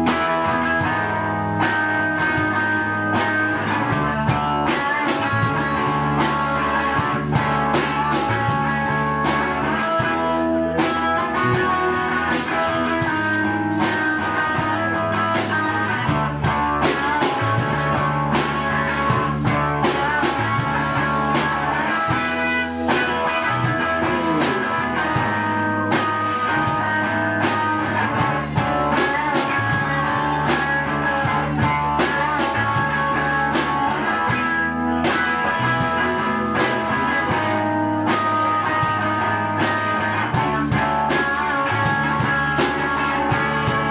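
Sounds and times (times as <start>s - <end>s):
drum kit with cymbals: 0.0s - 43.9s
electric guitar: 0.0s - 43.9s.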